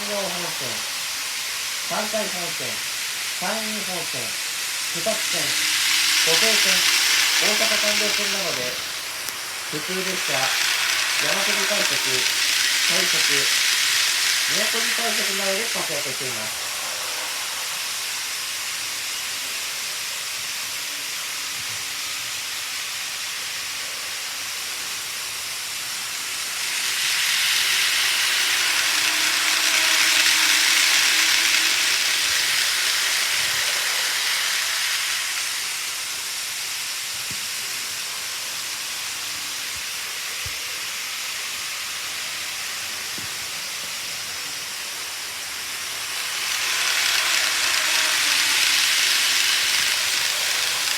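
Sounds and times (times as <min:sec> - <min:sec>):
model train rolling on track: 0:00.0 - 0:50.9.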